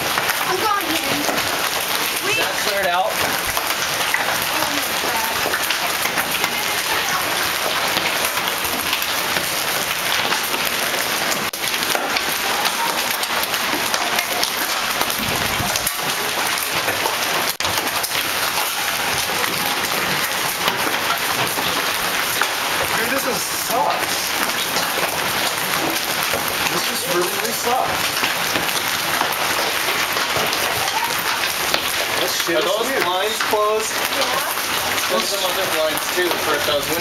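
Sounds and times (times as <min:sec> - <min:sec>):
hail and heavy rain pelting: 0:00.0 - 0:37.0.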